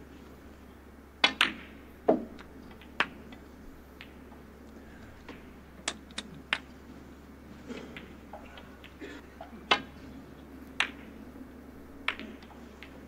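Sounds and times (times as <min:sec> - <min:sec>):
snooker balls clicking: 0:01.2 - 0:13.0.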